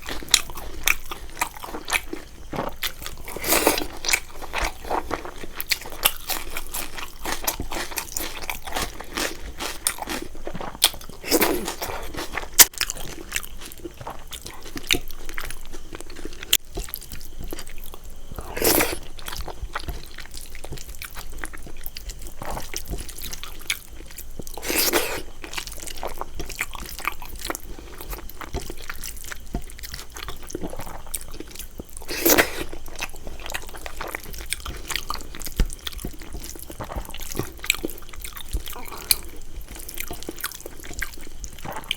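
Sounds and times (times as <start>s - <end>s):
close chewing with wet smacks: 0.0s - 41.9s.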